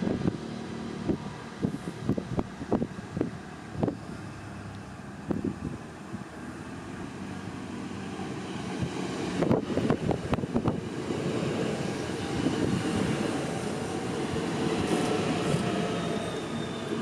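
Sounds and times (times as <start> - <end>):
faint train whine: 0.0 - 17.0
train rolling rumble: 0.0 - 17.0.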